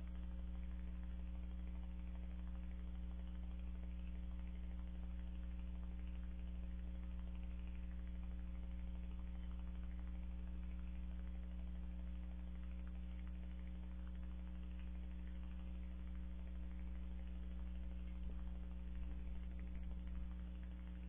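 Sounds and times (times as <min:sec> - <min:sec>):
electrical mains hum: 0:00.0 - 0:21.0
faint buzzing hiss: 0:00.0 - 0:21.0.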